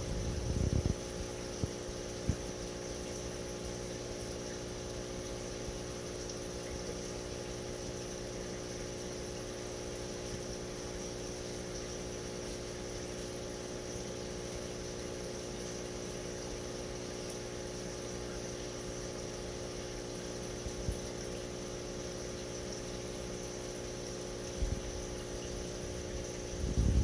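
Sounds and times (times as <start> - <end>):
aquarium pump humming: 0.0 - 27.0.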